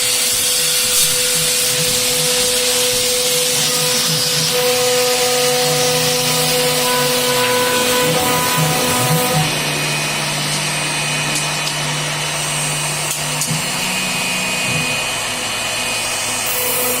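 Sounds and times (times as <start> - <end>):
cutting noise: 0.0 - 17.0
router spindle whine: 0.0 - 17.0.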